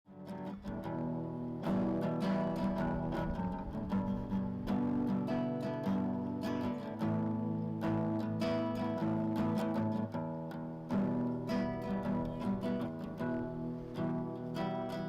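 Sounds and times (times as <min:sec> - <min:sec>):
acoustic guitar strumming: 0:00.1 - 0:15.0.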